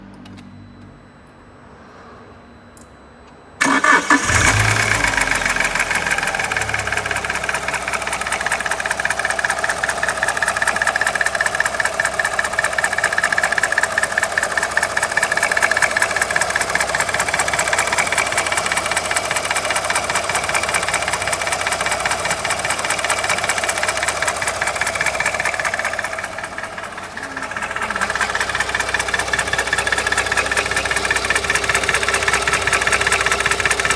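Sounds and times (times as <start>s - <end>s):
car engine starting: 3.6s - 33.9s
engine idling with rattling clatter: 3.6s - 33.9s.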